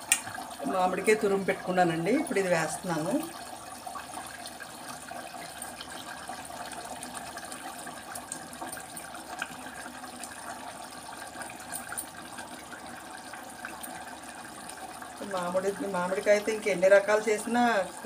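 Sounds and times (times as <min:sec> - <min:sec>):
curry bubbling in pot: 0:00.0 - 0:18.0.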